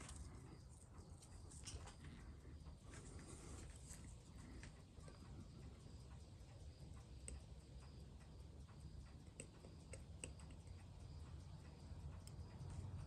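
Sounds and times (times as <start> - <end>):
light clicks of watchmaker's tools: 0.0 - 13.0
steady low hum: 0.0 - 13.0.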